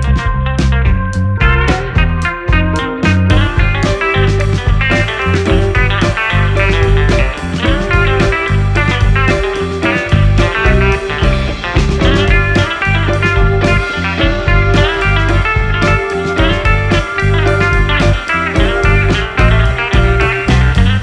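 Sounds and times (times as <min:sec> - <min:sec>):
blues-rock electric guitar music: 0:00.0 - 0:21.0.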